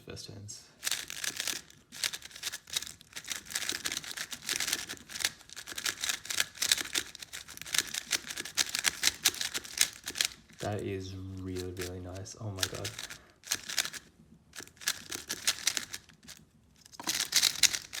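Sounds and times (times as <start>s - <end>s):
puzzle cube clicking and swishing: 0.8s - 18.0s.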